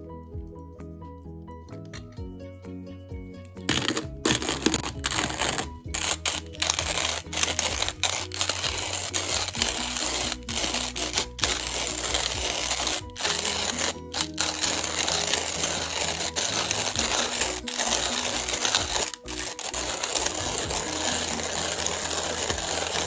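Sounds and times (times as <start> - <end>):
coffee grinder crunching beans: 3.7 - 23.0.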